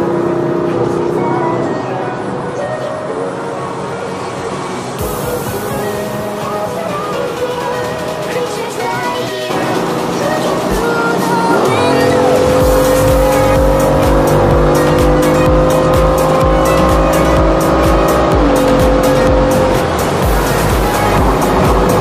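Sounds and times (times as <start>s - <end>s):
car engine accelerating hard: 0.0s - 6.7s, 9.5s - 22.0s
music: 0.0s - 22.0s.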